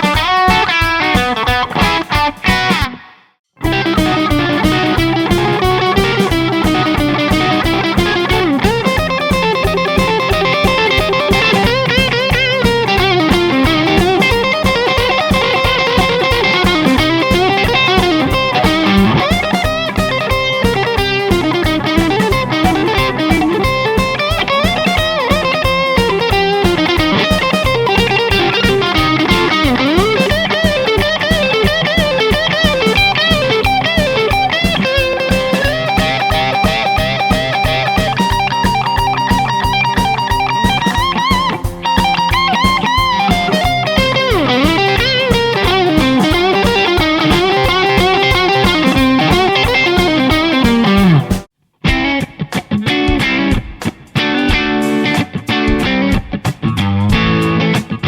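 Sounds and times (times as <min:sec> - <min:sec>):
electric guitar lead with string bends: 0:00.0 - 0:58.0.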